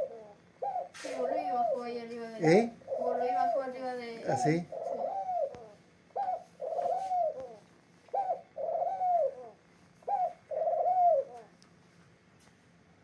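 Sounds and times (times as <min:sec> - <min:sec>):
pigeon cooing: 0:00.0 - 0:11.6.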